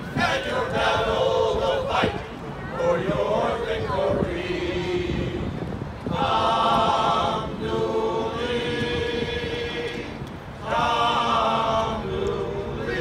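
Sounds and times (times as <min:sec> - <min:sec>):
men's chorus singing in harmony: 0:00.0 - 0:13.0.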